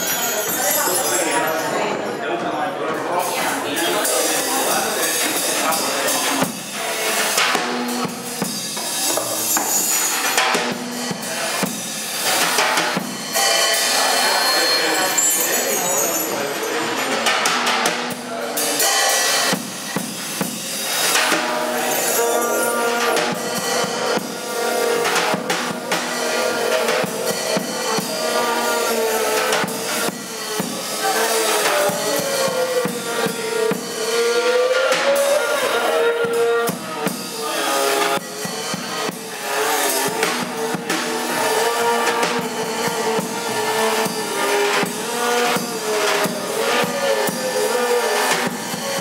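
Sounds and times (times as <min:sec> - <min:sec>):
drums: 0:00.0 - 0:01.8, 0:03.1 - 0:49.0.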